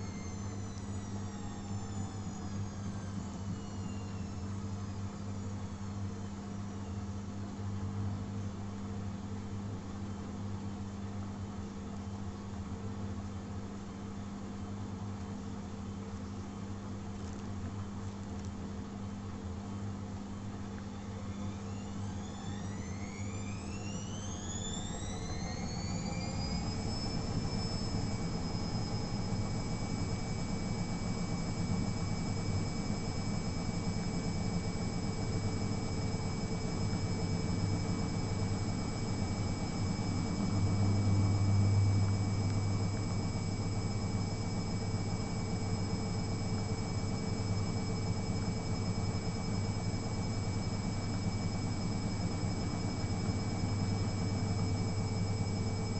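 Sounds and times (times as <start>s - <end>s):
washing machine motor whine: 0.0s - 55.9s.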